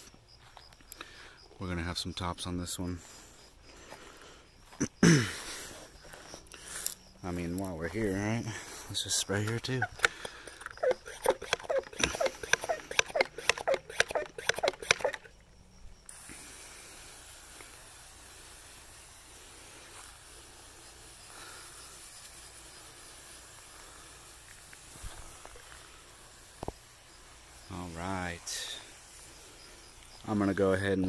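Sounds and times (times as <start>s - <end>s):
garden sprayer hissing: 3.0s - 31.0s.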